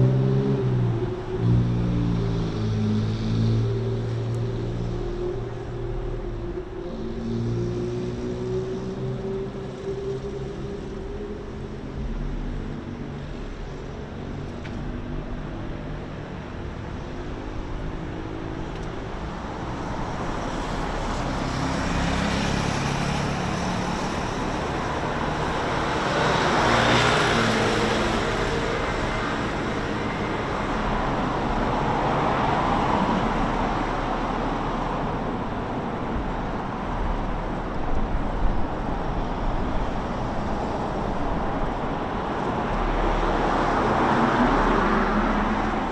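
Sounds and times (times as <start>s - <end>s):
cars passing by: 0.0s - 45.9s
steady hum of engines: 0.0s - 45.9s.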